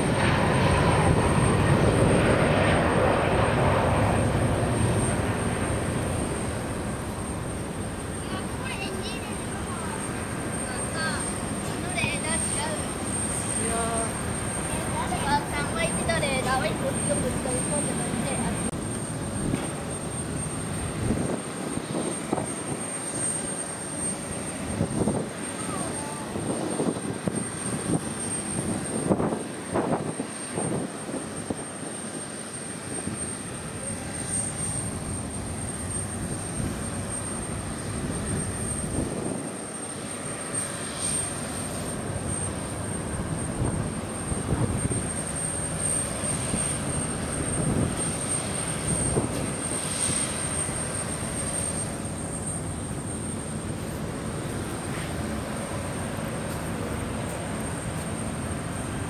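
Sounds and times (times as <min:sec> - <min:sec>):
distant jet engine rumble: 0:00.0 - 0:59.0.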